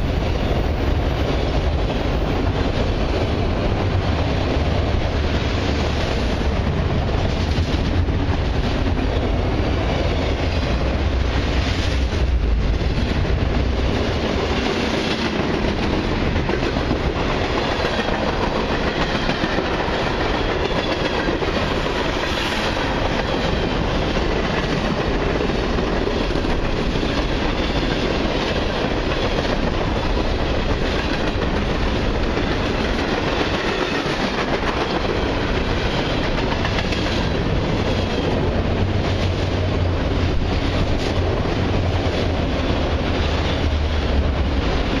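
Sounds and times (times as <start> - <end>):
train wheels clacking on rails: 0.0 - 45.0.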